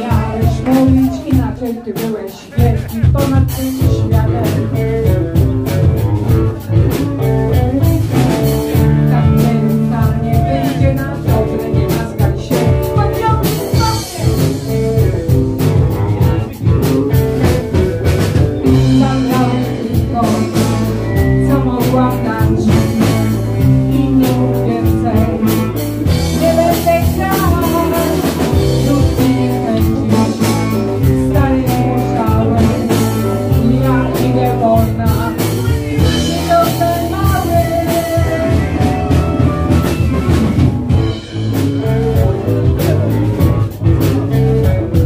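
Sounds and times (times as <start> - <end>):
woman singing: 0.0 - 17.8, 18.6 - 41.1
drum kit: 0.0 - 45.0
electric guitars: 0.0 - 45.0.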